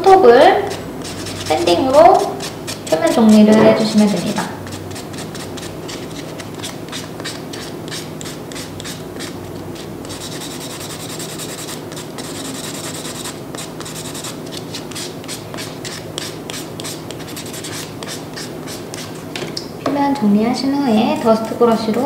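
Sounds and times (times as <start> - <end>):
nail buffer sanding: 0.4 - 19.3, 20.9 - 22.0.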